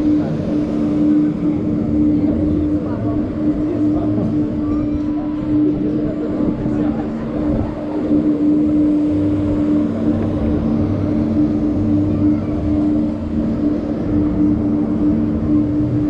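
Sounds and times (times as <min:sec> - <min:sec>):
ride machinery drone: 0:00.0 - 0:16.0
swinging gondola rushing: 0:00.0 - 0:16.0.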